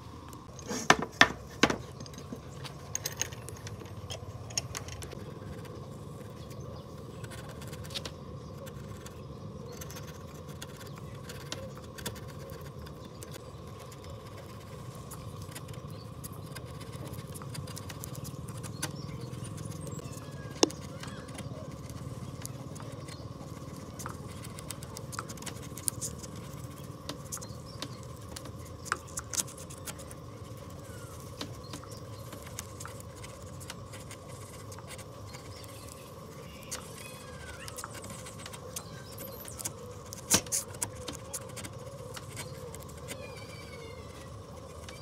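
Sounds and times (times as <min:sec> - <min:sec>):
chisel shaving wood crackling: 0:00.3 - 0:45.0.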